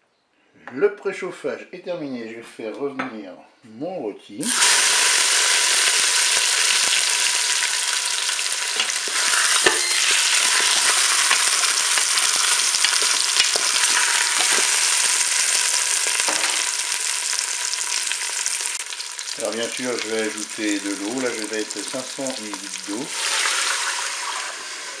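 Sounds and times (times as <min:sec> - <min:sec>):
pork roast sizzling in oil: 0:04.4 - 0:25.0.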